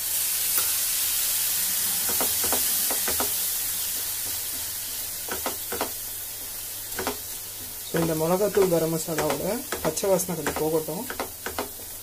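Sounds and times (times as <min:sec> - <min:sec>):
masala sizzling in a frying pan: 0:00.0 - 0:12.0.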